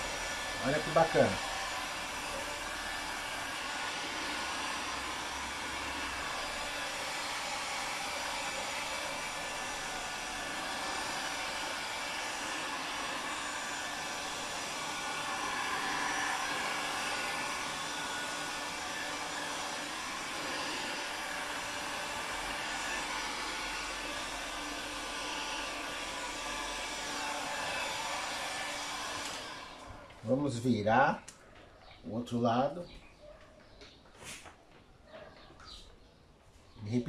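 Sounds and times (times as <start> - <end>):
heat gun blowing air: 0.0 - 31.1.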